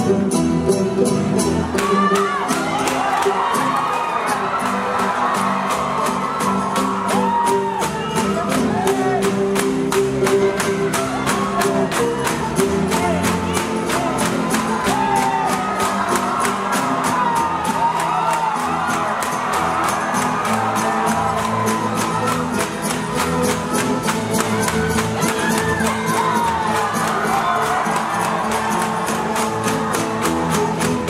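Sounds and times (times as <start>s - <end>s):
music: 0.0s - 31.0s
audience shouting: 1.8s - 9.3s, 10.5s - 23.4s, 24.1s - 31.0s.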